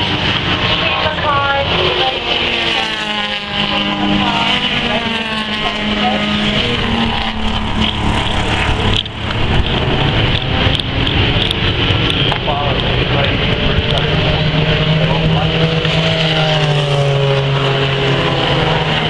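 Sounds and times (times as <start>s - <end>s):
race car engines accelerating: 0.0s - 19.0s.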